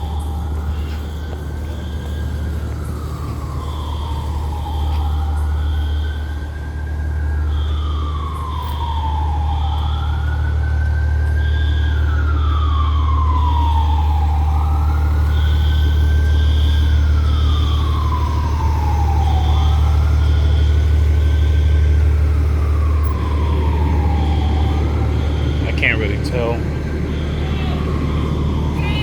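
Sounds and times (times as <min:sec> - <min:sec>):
heavy engine running: 0:00.0 - 0:29.0
siren wailing: 0:00.0 - 0:29.0.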